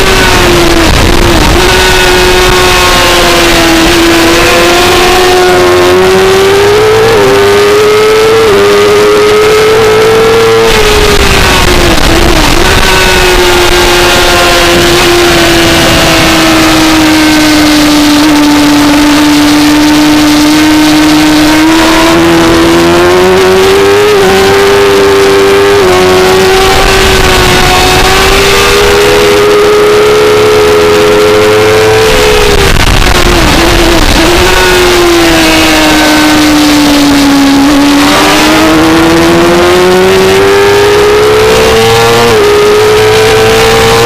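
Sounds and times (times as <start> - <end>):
motorcycle engine racing: 0.0 - 44.0.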